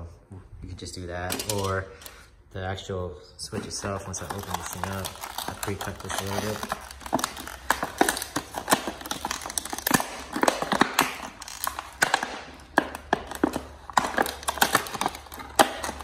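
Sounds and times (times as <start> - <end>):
plastic packaging crackling: 1.2 - 2.0, 3.4 - 16.0.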